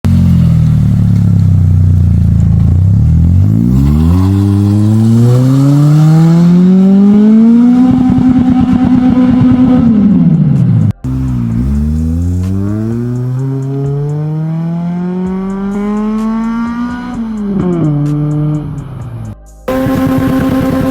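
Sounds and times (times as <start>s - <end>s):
car engine revving: 0.0s - 20.9s
engine bouncing off rev limiter: 0.0s - 20.9s.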